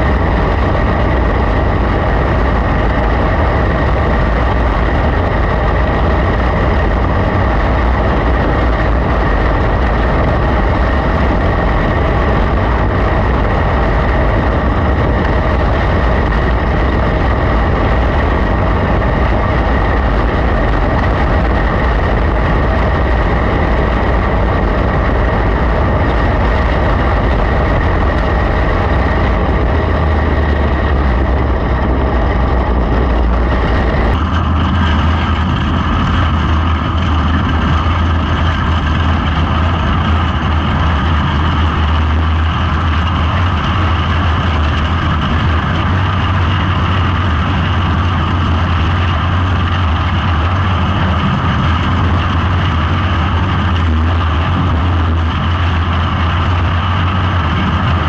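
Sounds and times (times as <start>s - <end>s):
low rumble: 0.0s - 58.0s
race car engine running hard: 0.0s - 58.0s
rushing wind: 0.0s - 58.0s.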